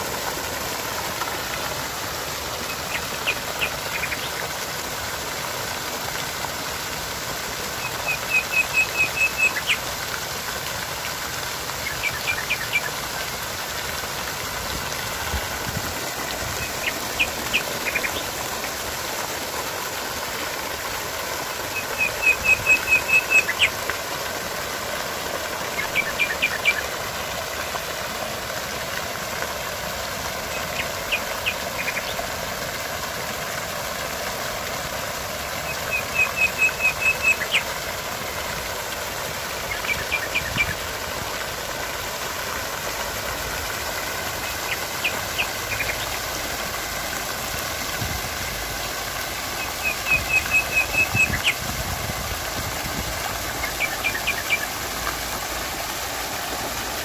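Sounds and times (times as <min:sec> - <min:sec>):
fountain splashing into stone basin: 0:00.0 - 0:57.0.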